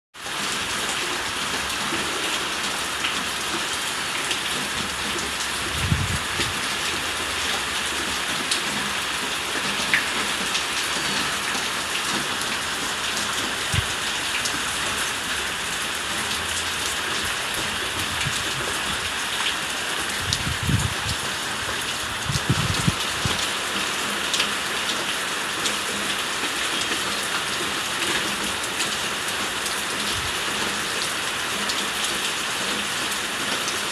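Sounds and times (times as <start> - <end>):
steady rain falling: 0.2 - 33.9.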